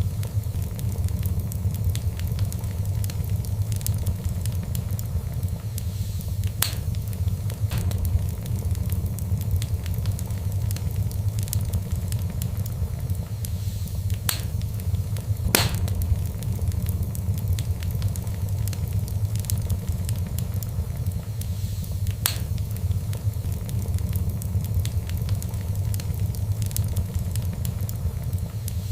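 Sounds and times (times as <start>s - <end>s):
fire crackling in fireplace: 0.0s - 28.9s
low rumble: 0.0s - 28.9s
sharp pops of fire: 0.0s - 28.9s.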